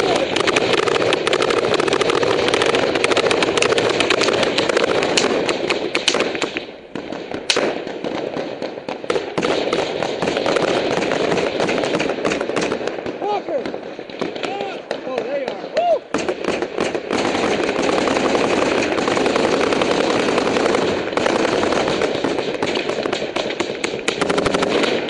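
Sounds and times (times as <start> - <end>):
rapid rifle and machine-gun fire: 0.0 - 25.0.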